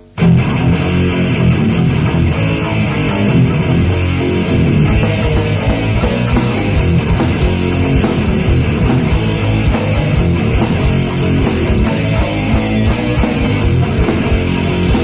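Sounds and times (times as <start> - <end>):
heavy rock band with electric guitars: 0.0 - 15.0.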